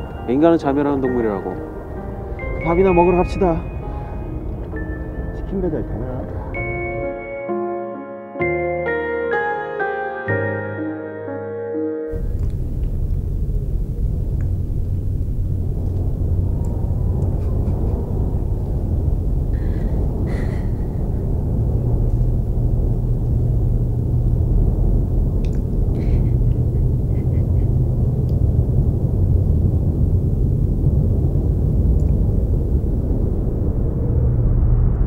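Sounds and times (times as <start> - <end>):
low rumbling drone: 0.0 - 9.6, 12.1 - 35.0.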